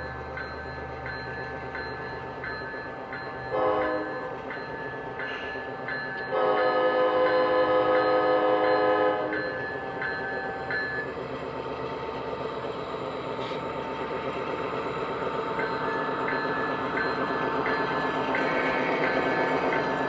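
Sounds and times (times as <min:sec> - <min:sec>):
model locomotive engine drone: 0:00.0 - 0:20.0
train rolling: 0:00.0 - 0:20.0.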